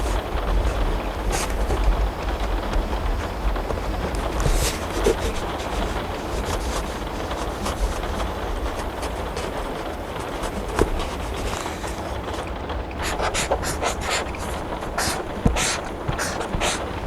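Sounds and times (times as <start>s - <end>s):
pencil scratching on paper: 0.0s - 17.0s
steady rain: 0.0s - 17.0s.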